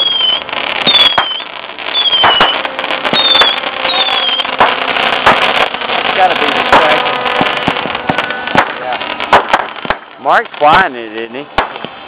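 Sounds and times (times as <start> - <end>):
firework whistles: 0.0 - 10.1
crackling hiss: 0.0 - 12.0
firework cracks: 0.0 - 12.0.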